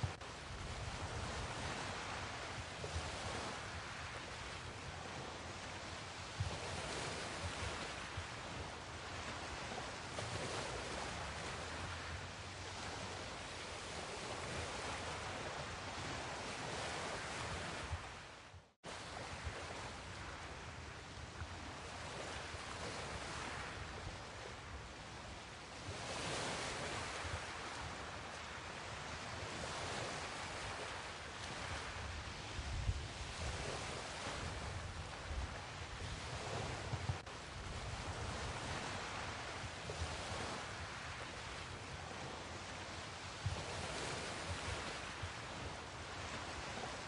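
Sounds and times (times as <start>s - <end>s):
small waves washing along shore: 0.0s - 47.0s
wind rumbling on microphone: 0.0s - 47.0s.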